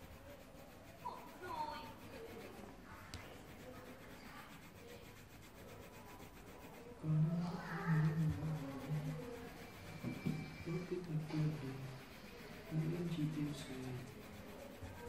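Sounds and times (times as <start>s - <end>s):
faint rubbing: 0.0s - 15.0s.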